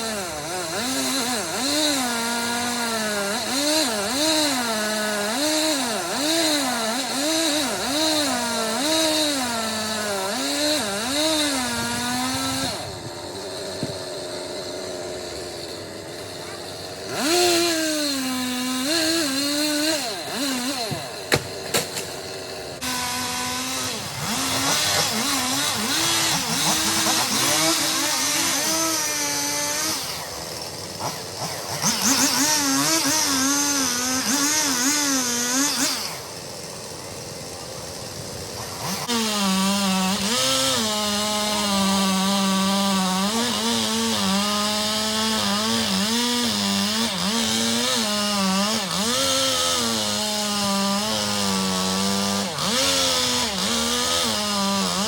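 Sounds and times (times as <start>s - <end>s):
chainsaw cutting: 0.0s - 55.0s.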